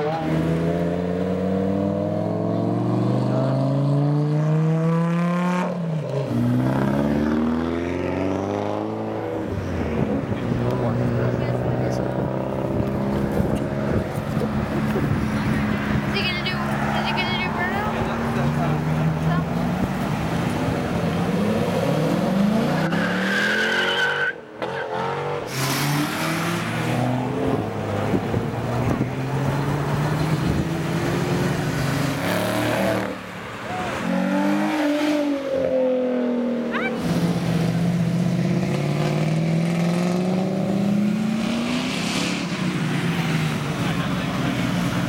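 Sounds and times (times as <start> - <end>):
car engines revving and accelerating: 0.0 - 45.0.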